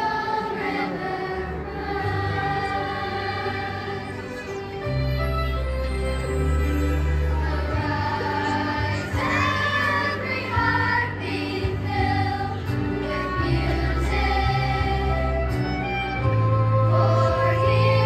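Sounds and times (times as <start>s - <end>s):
children's choir singing: 0.0s - 4.9s, 6.8s - 18.0s
instrumental accompaniment: 0.0s - 18.0s.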